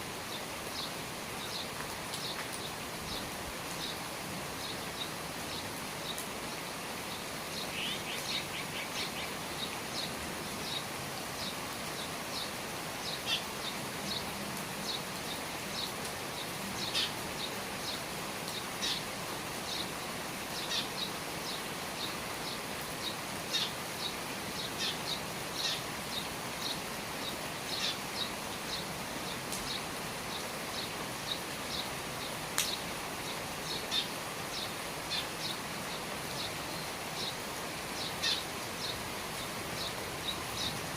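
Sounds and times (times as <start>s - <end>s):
steady rain falling: 0.0s - 40.9s
small birds chirping: 0.2s - 40.9s.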